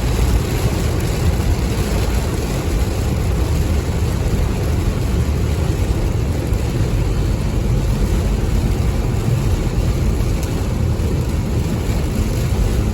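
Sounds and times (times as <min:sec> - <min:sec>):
car rumbling on wet road: 0:00.0 - 0:12.9
steady rain: 0:00.0 - 0:12.9.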